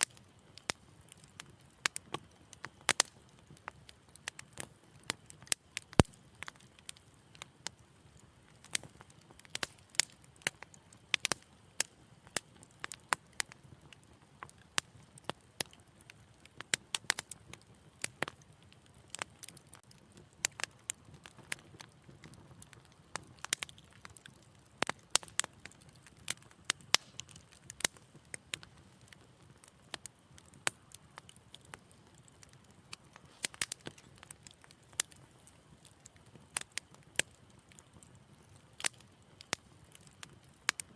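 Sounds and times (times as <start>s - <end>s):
low rumble of burning: 0.0s - 40.9s
wood fire crackling and popping: 0.0s - 40.9s.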